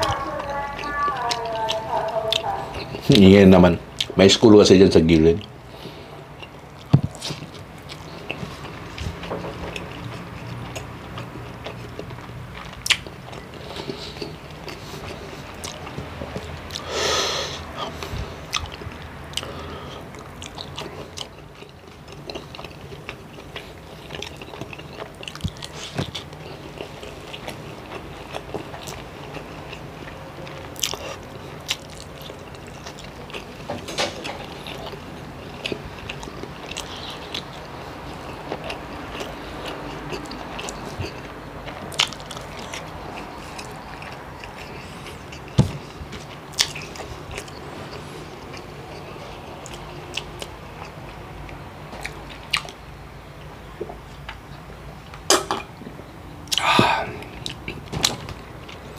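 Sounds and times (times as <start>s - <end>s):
person chewing: 0.0s - 4.2s, 5.2s - 54.6s, 56.4s - 58.9s.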